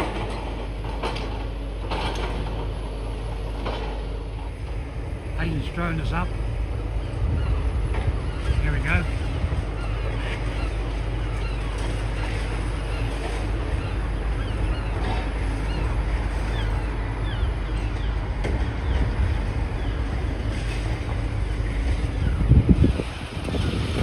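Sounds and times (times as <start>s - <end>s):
wind buffeting microphone: 4.2s - 24.0s.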